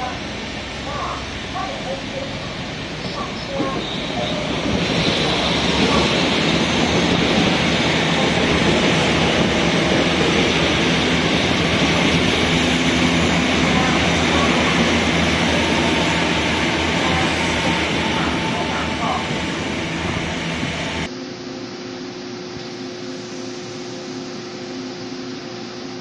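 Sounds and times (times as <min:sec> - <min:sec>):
train rail running noise: 0:00.0 - 0:21.2.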